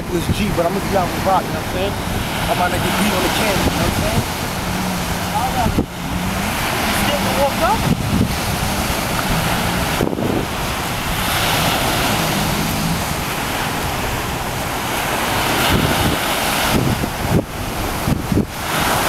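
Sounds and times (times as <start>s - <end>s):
surf washing up on beach: 0.0s - 19.0s
wind buffeting microphone: 0.0s - 19.0s.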